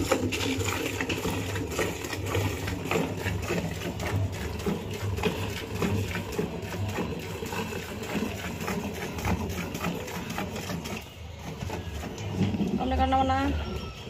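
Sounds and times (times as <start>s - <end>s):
milk squirting into steel pail: 0.0s - 14.0s.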